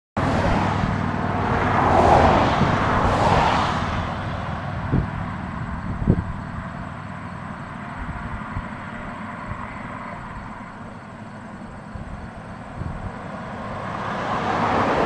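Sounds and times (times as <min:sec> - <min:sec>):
car passing: 0:00.2 - 0:15.0.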